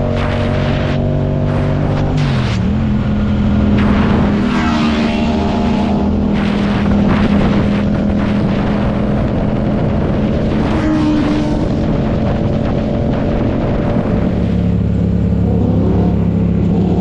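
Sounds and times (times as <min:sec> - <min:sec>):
gusts of noise: 0:00.0 - 0:17.0
motorcycle engine running: 0:00.0 - 0:17.0.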